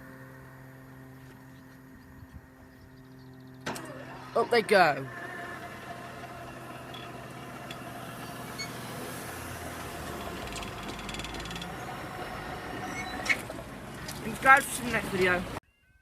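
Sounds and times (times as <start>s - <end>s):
barrier motor hum: 0.0s - 15.6s.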